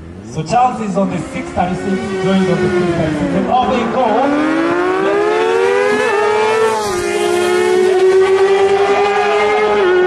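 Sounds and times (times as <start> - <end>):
motorcycles accelerating hard: 0.0 - 10.0.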